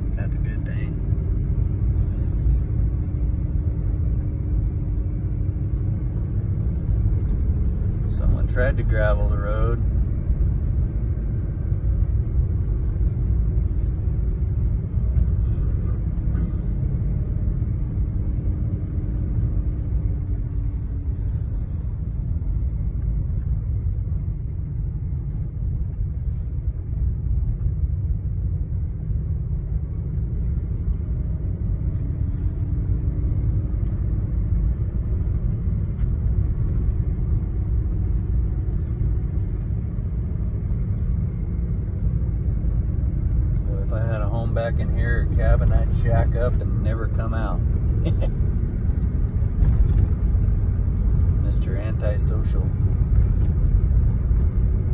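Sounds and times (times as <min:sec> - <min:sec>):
vehicle engine and tyres rumbling: 0:00.0 - 0:54.9.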